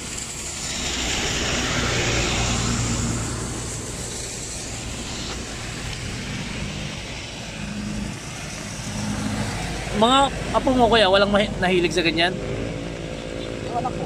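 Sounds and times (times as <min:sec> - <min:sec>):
rain falling: 0:00.0 - 0:13.8
rumble of motor traffic: 0:00.0 - 0:14.0.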